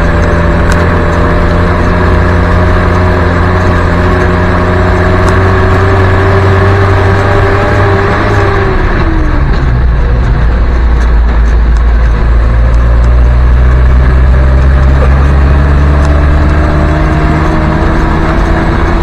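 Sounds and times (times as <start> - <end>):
drivetrain whine: 0.0 - 19.0
vehicle engine running: 0.0 - 19.0.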